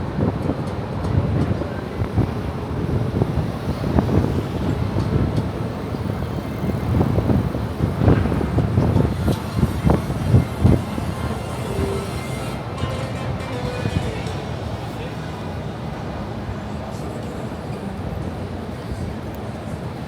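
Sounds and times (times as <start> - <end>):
rumble of passing cars: 0.0 - 20.0.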